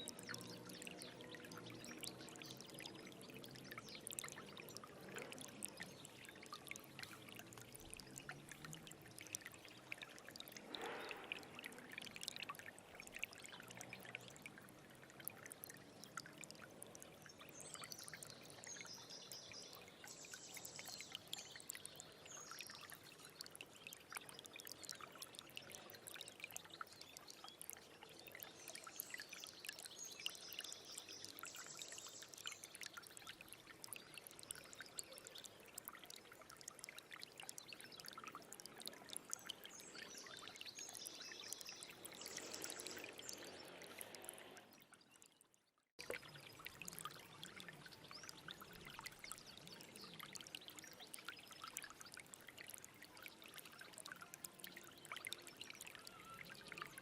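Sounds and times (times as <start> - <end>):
stream trickling and gurgling: 0.0 - 57.0.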